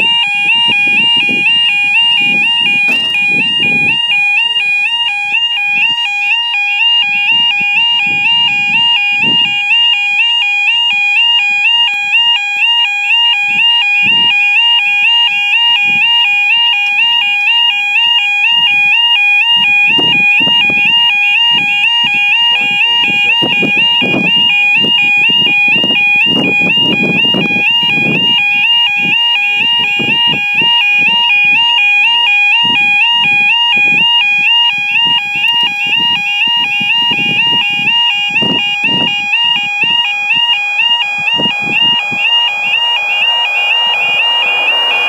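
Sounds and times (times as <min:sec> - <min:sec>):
level crossing alarm warbling: 0:00.0 - 0:45.0.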